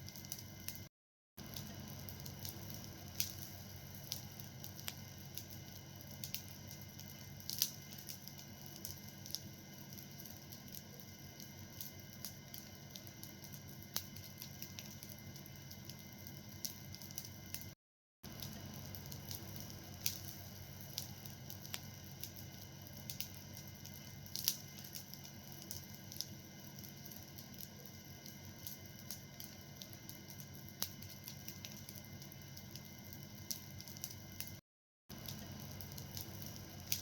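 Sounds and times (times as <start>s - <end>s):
wood fire crackling: 0.0s - 37.0s
fire pops: 1.4s - 17.7s, 18.3s - 34.5s, 35.1s - 37.0s.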